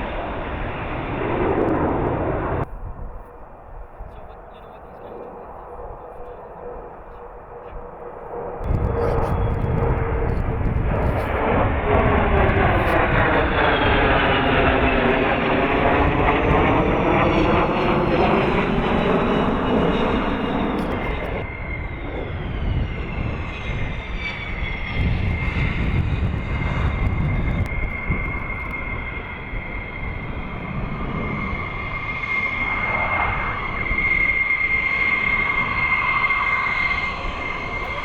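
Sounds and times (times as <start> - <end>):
fighter jet passing: 0.0 - 38.0
high turbine whine: 0.0 - 38.0.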